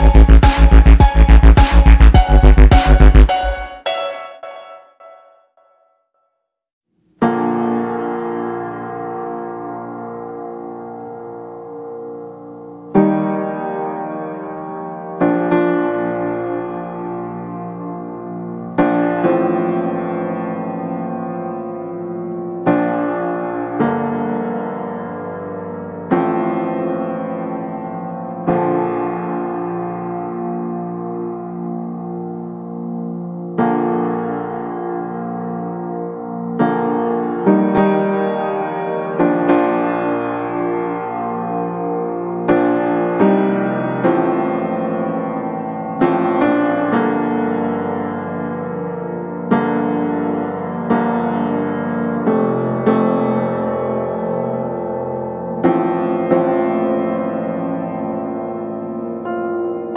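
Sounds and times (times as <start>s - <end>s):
slow piano chords: 0.0s - 6.0s, 7.0s - 59.9s.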